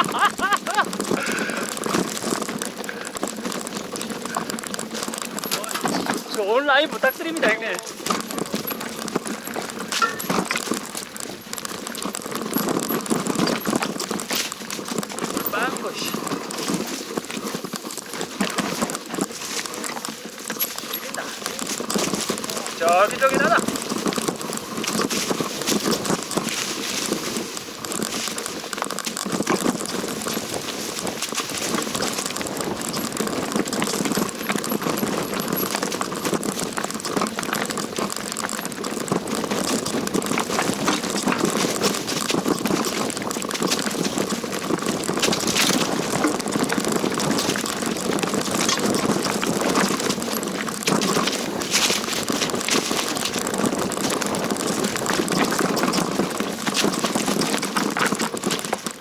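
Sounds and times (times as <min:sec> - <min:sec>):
bike rattling clicks and knocks: 0:00.0 - 0:59.0
bike tyres on dirt trail: 0:00.0 - 0:59.0.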